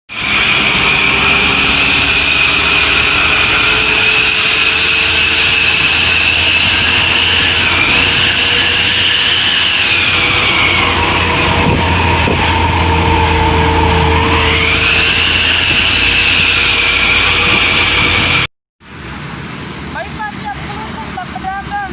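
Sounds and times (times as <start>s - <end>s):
high exhaust whistle: 0.1s - 18.5s
truck engine running: 0.1s - 21.3s.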